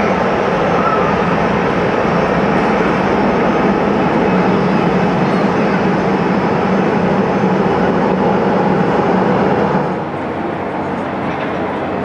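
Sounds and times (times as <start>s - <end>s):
jet engines climbing away: 0.0s - 12.0s.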